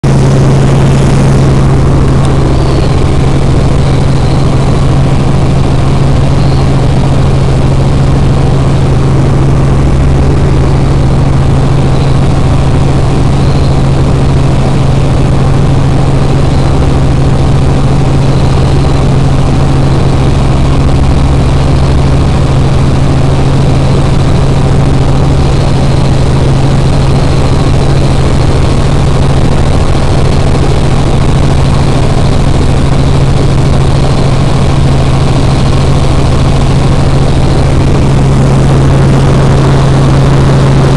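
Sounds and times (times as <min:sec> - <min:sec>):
helicopter engine and rotors droning: 0:00.0 - 0:40.9.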